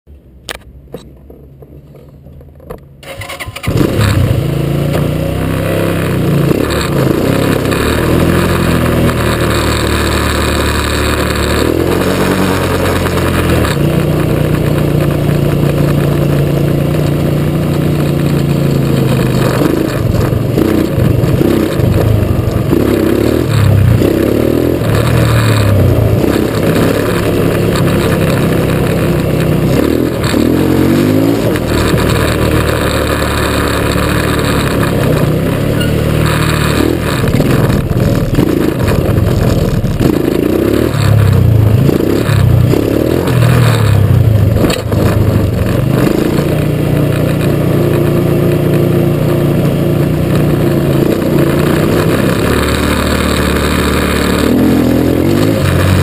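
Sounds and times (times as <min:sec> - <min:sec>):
quad bike engine revving: 0:03.0 - 0:56.0.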